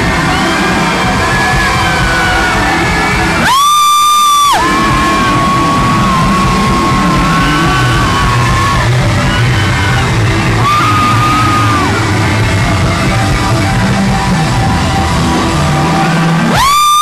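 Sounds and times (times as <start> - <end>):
audience yelling and whooping: 0.0 - 17.0
live pop concert music: 0.0 - 17.0.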